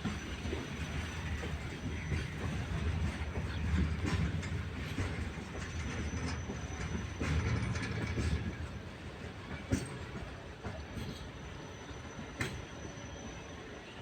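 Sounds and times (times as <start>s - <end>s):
wheels clicking over rail joints: 0.0s - 11.3s
train wheels rumbling on track: 0.0s - 14.0s.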